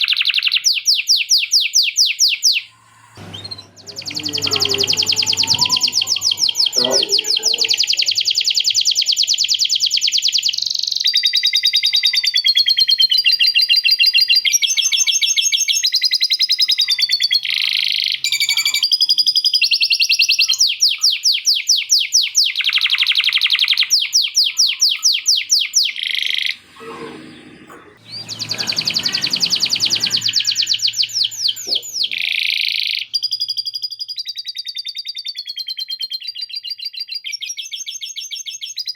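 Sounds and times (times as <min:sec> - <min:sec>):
canary singing trills: 0:00.0 - 0:27.1, 0:28.0 - 0:38.9.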